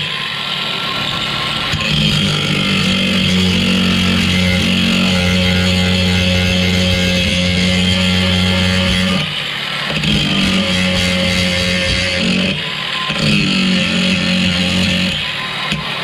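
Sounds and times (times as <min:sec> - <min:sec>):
angle grinder grinding steel: 0:00.0 - 0:16.0.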